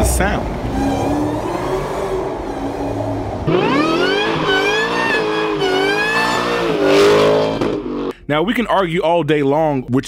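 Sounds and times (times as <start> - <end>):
car engine accelerating: 0.0 - 8.1
supercharger whine: 0.0 - 8.1.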